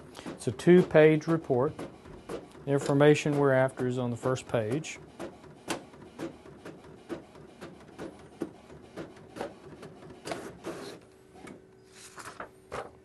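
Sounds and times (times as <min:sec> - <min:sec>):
printer paper feed whir: 0:00.0 - 0:11.6
printer mechanical strokes: 0:00.1 - 0:11.0.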